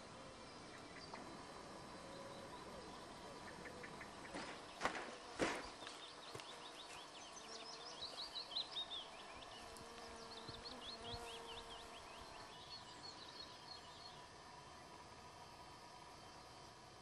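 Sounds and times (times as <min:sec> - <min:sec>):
songbird singing: 0:00.0 - 0:16.7.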